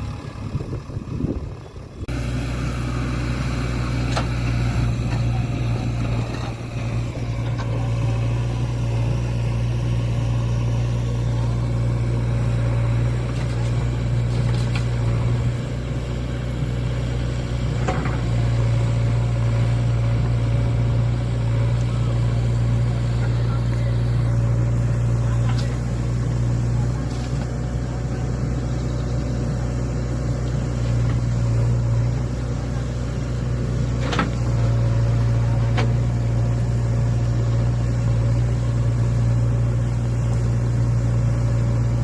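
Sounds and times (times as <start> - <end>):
heavy machinery diesel engine: 0.0 - 42.0.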